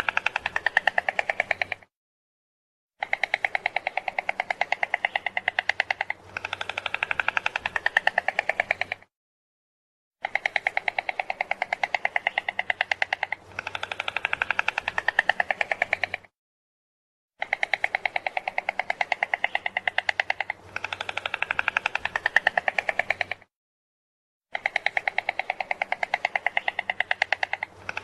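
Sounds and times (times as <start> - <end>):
stork clattering its bill: 0.0 - 1.9, 3.0 - 9.1, 10.2 - 16.3, 17.4 - 23.5, 24.5 - 28.0.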